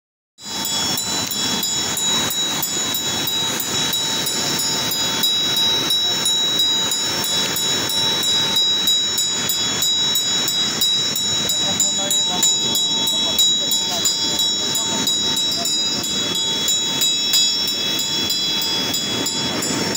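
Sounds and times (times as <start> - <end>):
hand bell rung rapidly: 0.4 - 19.9
fast river rushing: 0.5 - 19.9.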